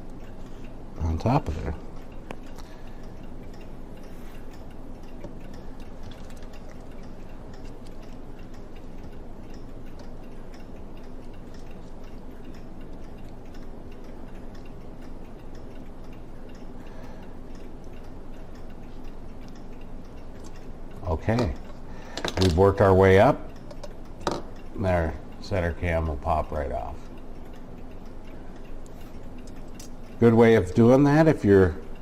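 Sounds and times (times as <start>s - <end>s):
low steady hum: 0.0s - 32.0s
mechanical clock ticking: 0.0s - 32.0s.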